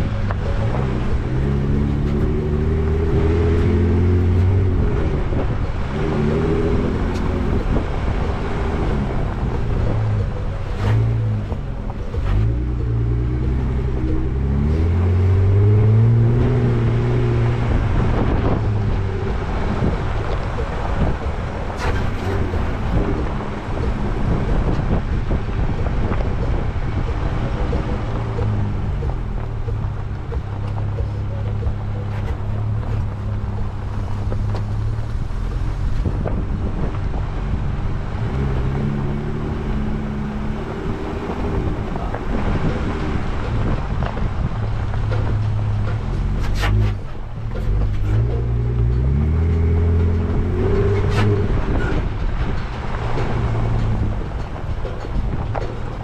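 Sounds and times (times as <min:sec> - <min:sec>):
off-road vehicle engine revving: 0:00.0 - 0:56.0
tyres rumbling on dirt: 0:00.0 - 0:56.0.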